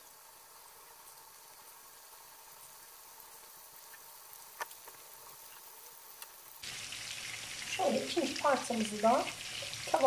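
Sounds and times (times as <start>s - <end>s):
meatballs sizzling in oil: 0.0s - 10.0s.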